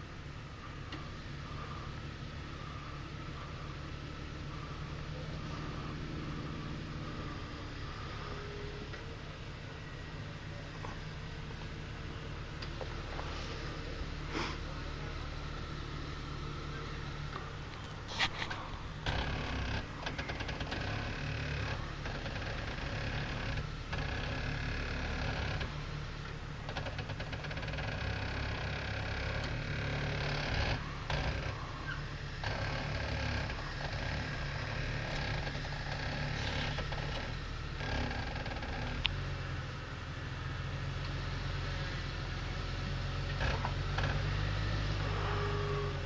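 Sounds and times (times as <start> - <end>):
engine running at low revs: 0.0 - 46.0.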